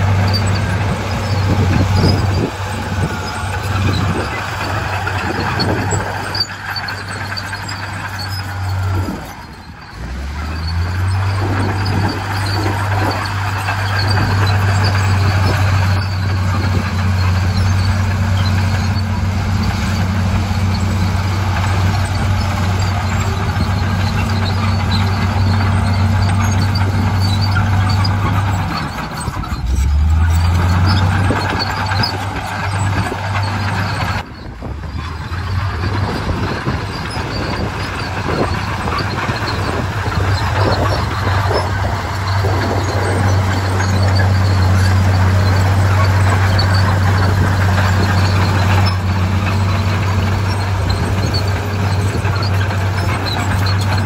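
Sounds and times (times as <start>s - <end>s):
bulldozer diesel engine droning: 0.0s - 54.0s
bulldozer pushing soil and rock: 0.0s - 54.0s.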